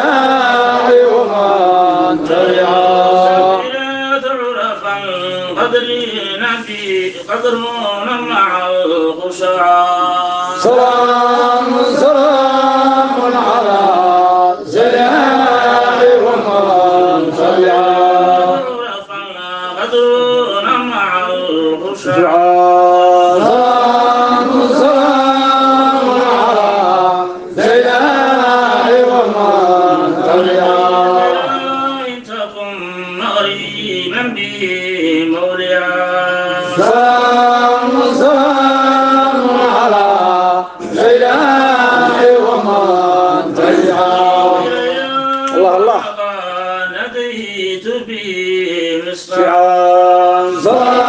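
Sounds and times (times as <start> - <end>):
person chanting: 0.0 - 51.0.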